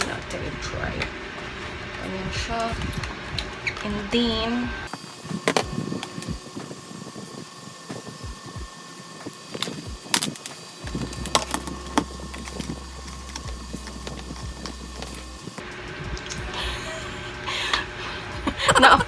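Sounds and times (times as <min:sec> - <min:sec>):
low steady hum: 0:00.0 - 0:08.7, 0:09.4 - 0:19.0.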